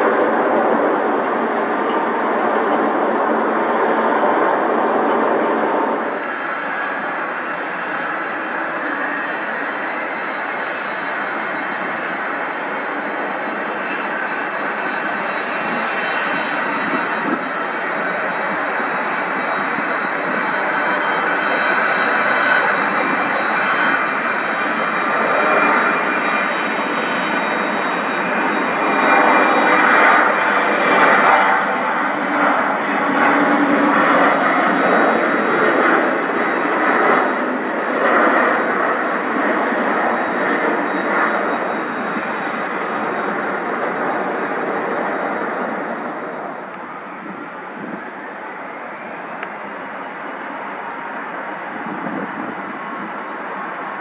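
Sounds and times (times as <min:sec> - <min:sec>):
jet airliner roar on takeoff: 0:00.0 - 0:54.0.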